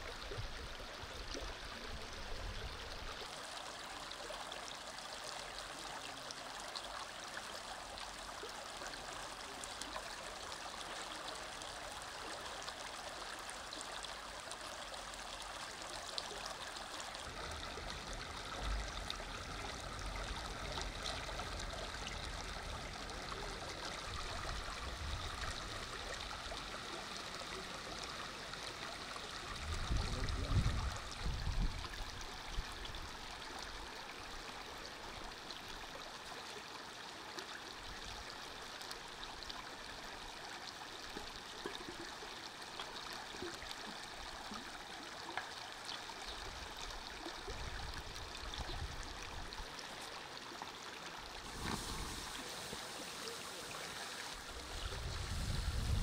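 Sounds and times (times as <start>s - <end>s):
stream running: 0.0s - 56.0s.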